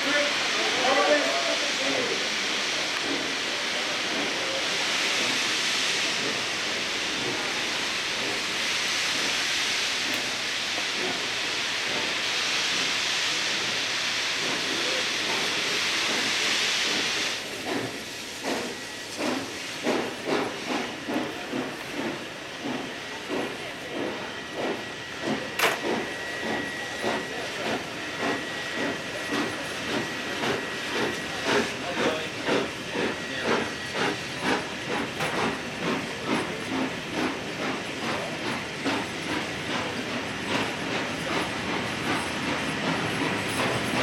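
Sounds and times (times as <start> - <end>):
steam hissing: 0.0 - 44.0
steam locomotive exhaust chuffs: 0.0 - 44.0.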